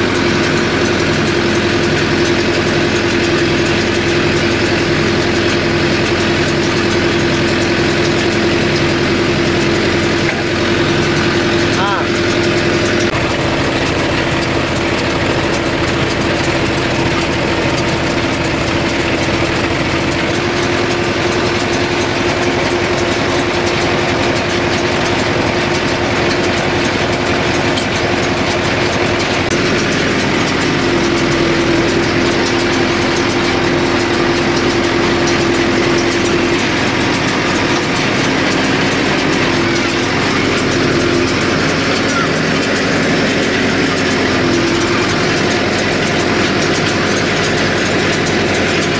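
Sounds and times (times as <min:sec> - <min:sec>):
baler mechanism running: 0:00.0 - 0:48.9
tractor diesel engine running: 0:00.0 - 0:48.9.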